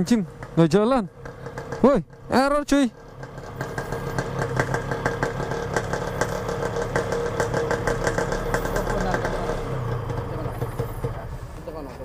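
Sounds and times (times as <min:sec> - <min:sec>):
rapid irregular ticking: 0:00.0 - 0:11.9
two-stroke engine idling: 0:00.0 - 0:12.0.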